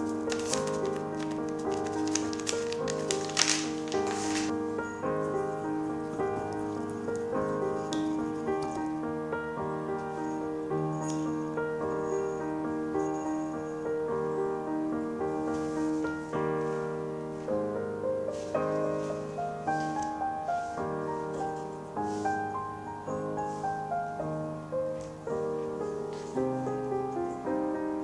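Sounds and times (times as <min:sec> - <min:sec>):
slow piano music: 0:00.0 - 0:28.0.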